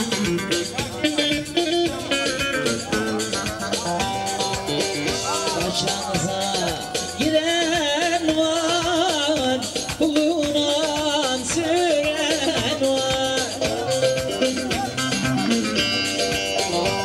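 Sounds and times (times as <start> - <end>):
folk dance music: 0.0 - 17.0
steady beat: 0.0 - 17.0.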